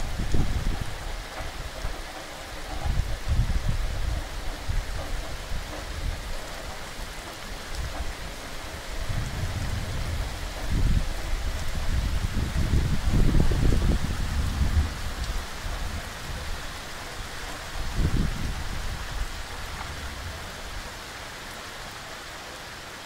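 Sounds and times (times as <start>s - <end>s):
rain falling on grass and sea: 0.0s - 23.0s.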